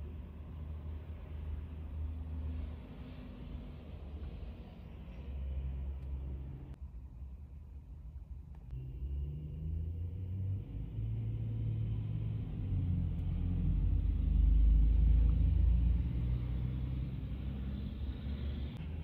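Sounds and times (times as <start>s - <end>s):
traffic engines rumbling: 0.0s - 19.0s.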